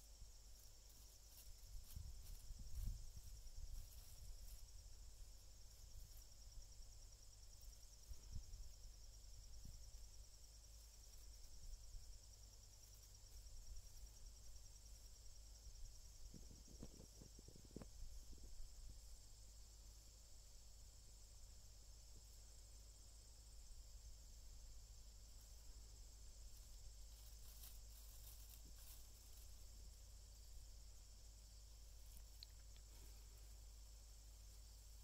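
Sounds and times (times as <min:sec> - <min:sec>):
high insect chirring: 0:00.0 - 0:35.0.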